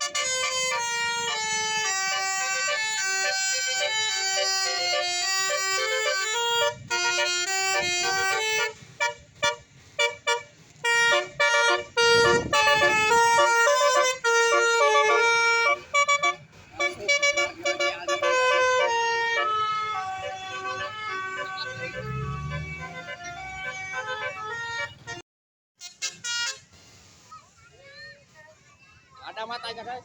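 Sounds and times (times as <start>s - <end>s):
bus musical horn playing tune: 0.0s - 25.2s, 25.8s - 26.9s.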